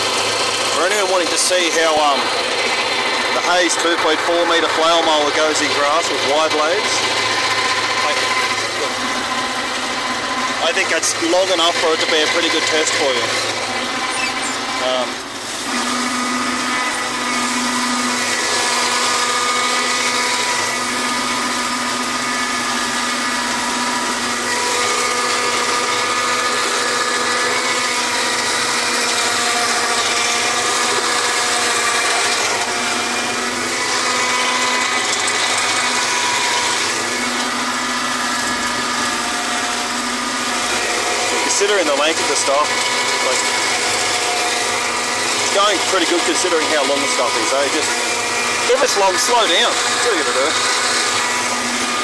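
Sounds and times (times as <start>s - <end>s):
flail mower cutting grass: 0.0s - 52.0s
machine whine: 0.0s - 52.0s
tractor engine: 0.0s - 52.0s.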